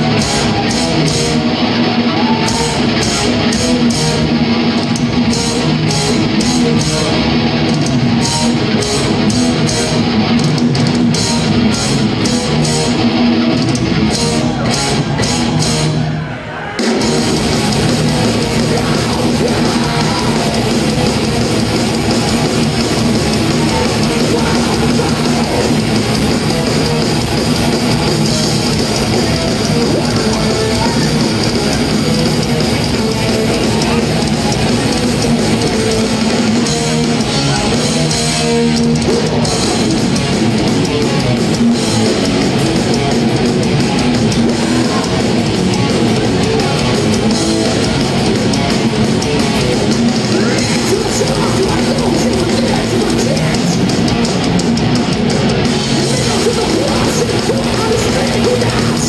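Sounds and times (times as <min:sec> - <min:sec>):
bass guitar: 0:00.0 - 0:59.0
distorted electric guitars: 0:00.0 - 0:59.0
drums: 0:00.0 - 0:59.0.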